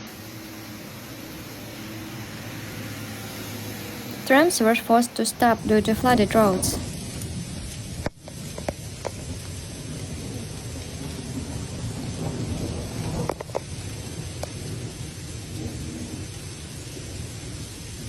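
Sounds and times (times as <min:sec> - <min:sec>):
heavy rain in a storm: 0:00.0 - 0:18.0.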